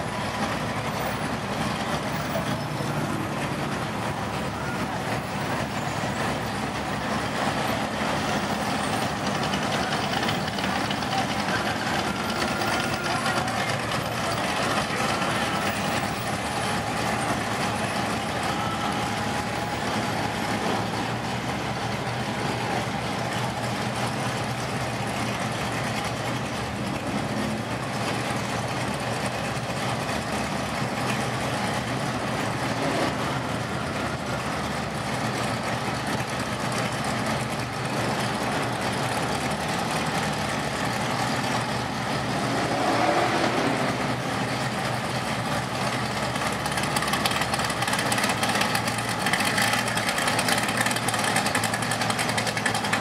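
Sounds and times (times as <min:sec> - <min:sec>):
car engines idling: 0:00.0 - 0:53.0.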